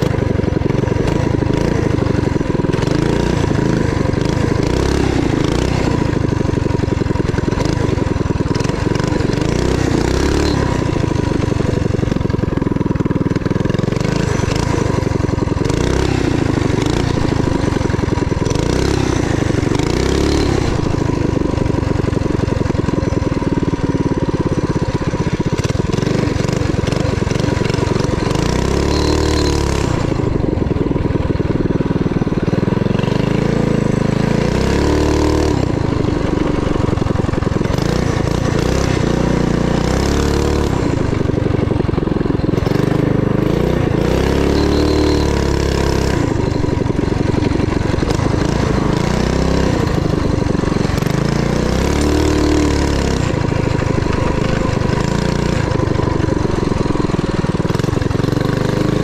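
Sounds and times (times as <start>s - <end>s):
mini bike engine revving: 0.0s - 59.0s.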